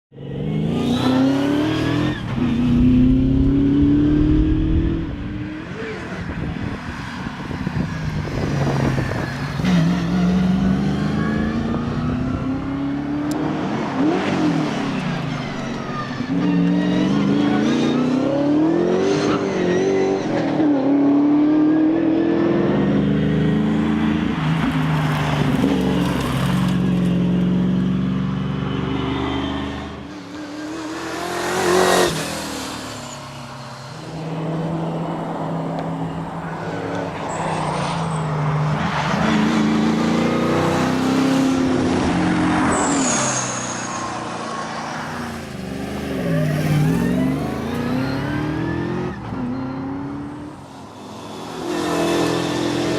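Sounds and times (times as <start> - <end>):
car engine revving: 7.4 - 42.8, 45.0 - 52.9.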